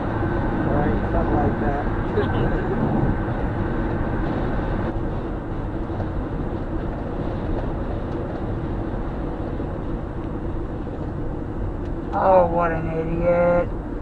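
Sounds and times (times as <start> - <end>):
car cabin road and engine noise: 0.0 - 14.0.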